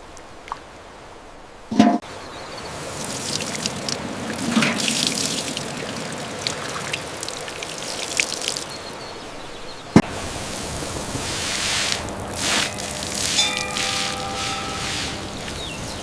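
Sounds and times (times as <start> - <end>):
water trickling and splashing: 1.7 - 16.0.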